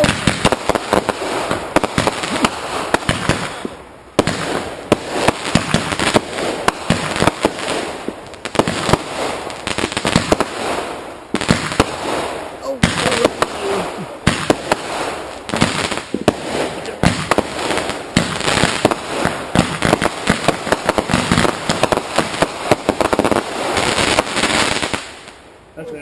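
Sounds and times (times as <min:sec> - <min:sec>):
fireworks hiss: 0:00.0 - 0:25.4
fireworks cracking and popping: 0:00.0 - 0:25.5.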